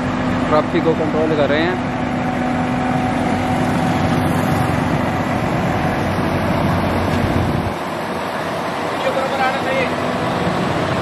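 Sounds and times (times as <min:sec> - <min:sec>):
heavy truck engine rumbling: 0:00.0 - 0:11.0
road traffic noise: 0:00.0 - 0:11.0.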